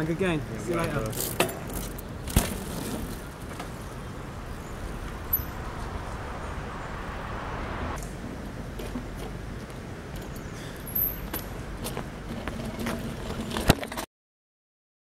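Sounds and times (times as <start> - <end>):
steady outdoor rush: 0.0 - 14.0
bike rolling on paved path: 0.0 - 14.1.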